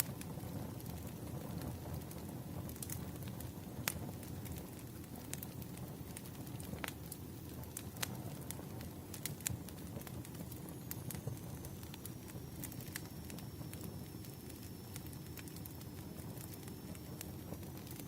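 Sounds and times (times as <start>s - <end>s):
firewood crackling and popping: 0.0s - 18.0s
low rumble of flames: 0.0s - 18.0s.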